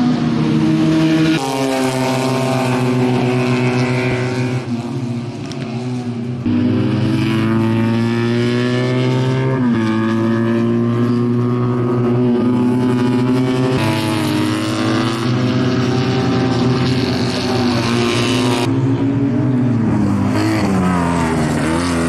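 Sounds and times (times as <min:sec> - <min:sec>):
race car engines revving: 0:00.0 - 0:22.0.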